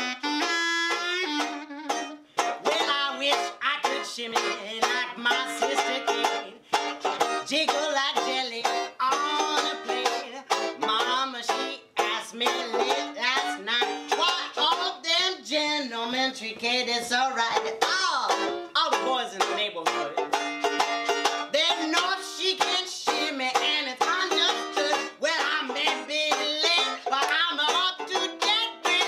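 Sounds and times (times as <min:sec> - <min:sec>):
banjo playing jazz tune: 0:00.0 - 0:16.1, 0:17.0 - 0:29.0.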